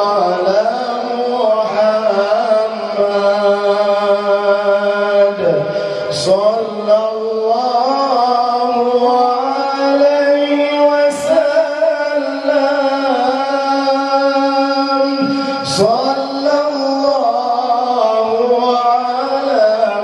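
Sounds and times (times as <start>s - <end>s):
men singing devotional song: 0.0s - 20.0s.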